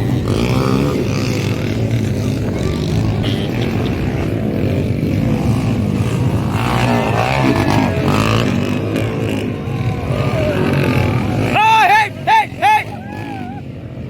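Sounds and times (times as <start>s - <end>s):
dirt bike engines droning: 0.0s - 14.0s.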